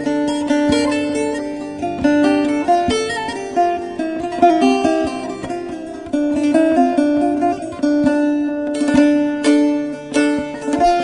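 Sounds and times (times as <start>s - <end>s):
plucked string folk melody: 0.0s - 11.0s.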